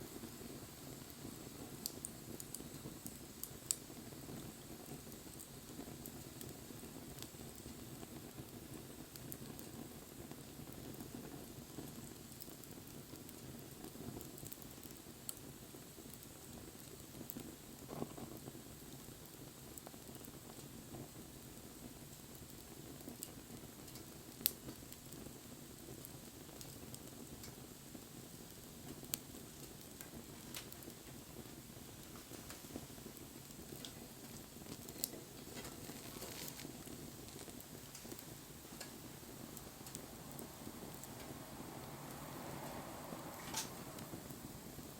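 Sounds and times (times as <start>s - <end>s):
burning wood crackles: 0.0s - 44.9s
rustle of flames: 0.0s - 44.9s.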